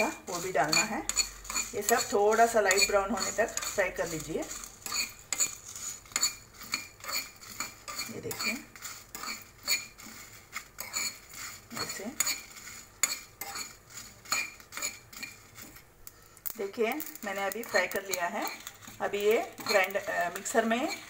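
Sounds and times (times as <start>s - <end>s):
metal spoon scraping spices in pan: 0.0s - 21.0s.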